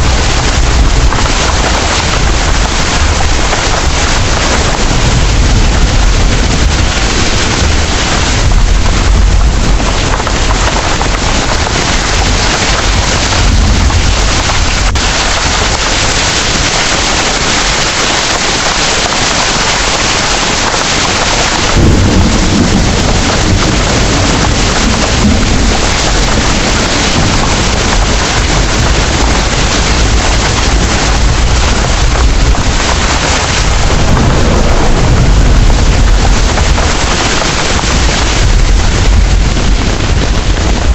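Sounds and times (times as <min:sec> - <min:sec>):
low thunder rumbling: 0:00.0 - 0:17.9, 0:18.5 - 0:40.9
heavy rain pouring: 0:00.0 - 0:40.9.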